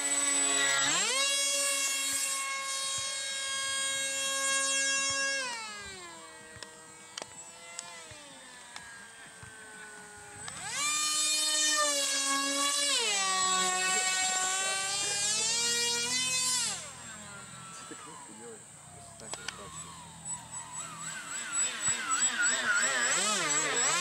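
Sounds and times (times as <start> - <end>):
model jet motor whining: 0.0 - 24.0.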